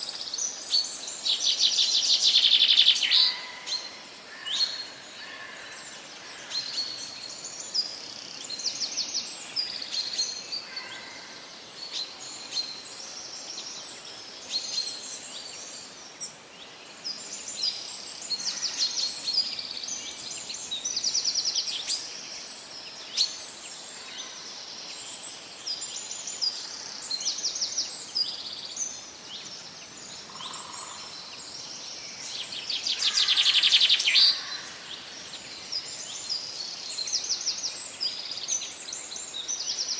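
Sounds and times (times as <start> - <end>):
faint background hiss: 0.0 - 39.9
birds chirping and trilling: 0.2 - 39.9.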